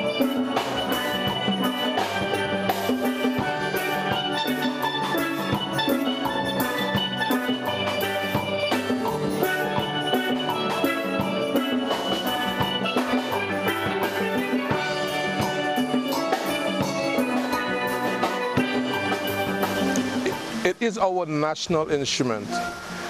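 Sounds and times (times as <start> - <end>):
steel band playing: 0.0 - 21.5, 22.2 - 23.0.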